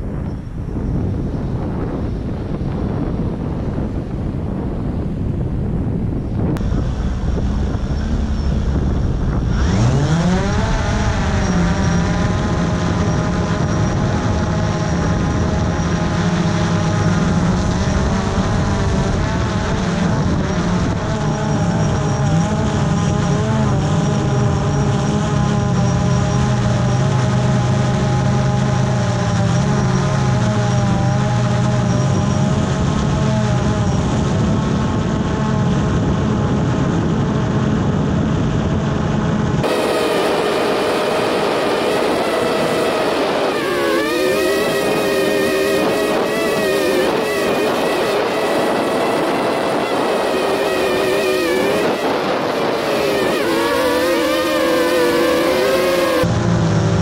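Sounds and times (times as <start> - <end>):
wind rumble on microphone: 0.0 - 57.0
drone motors buzzing: 6.1 - 57.0.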